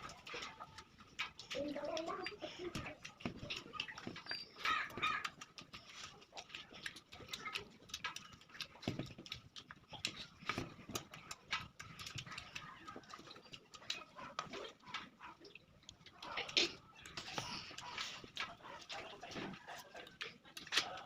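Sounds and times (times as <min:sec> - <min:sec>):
chewing: 0:00.0 - 0:21.0
lip smacks: 0:00.0 - 0:21.0
wet mouth clicks: 0:00.0 - 0:21.0.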